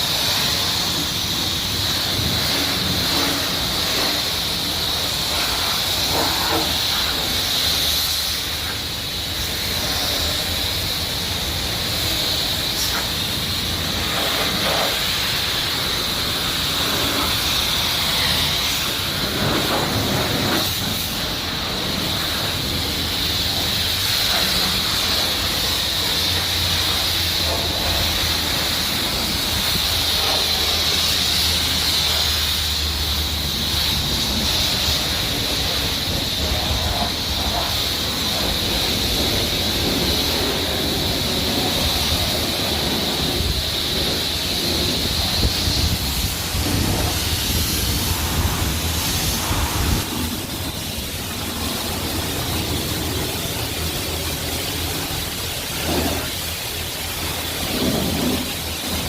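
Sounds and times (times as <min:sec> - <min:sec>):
pressure washer spray hissing: 0:00.0 - 0:59.0.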